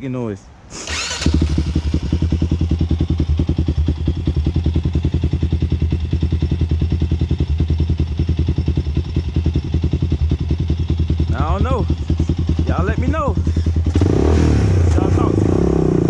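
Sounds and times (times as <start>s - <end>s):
engine idling: 0.8s - 16.0s.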